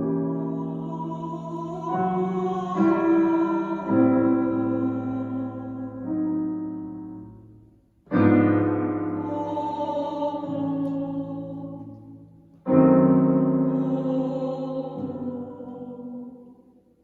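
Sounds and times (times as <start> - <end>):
piano playing slow chords: 0.0 - 16.4.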